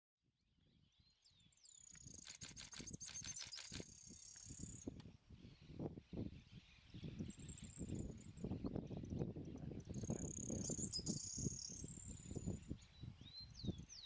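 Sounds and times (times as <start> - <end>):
bird singing trill: 0.6 - 14.0.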